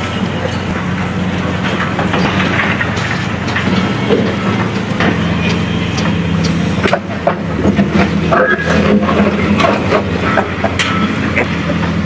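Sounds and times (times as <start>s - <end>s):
excavator diesel engine running: 0.0s - 12.0s
metallic clanks and knocks: 0.4s - 12.0s.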